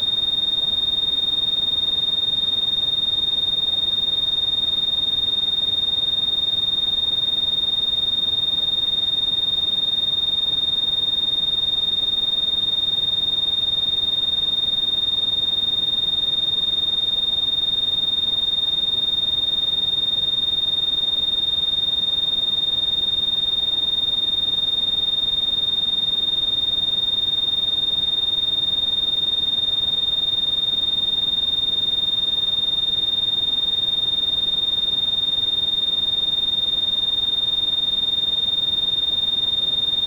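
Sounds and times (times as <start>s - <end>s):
steady high-pitched beep: 0.0s - 40.0s.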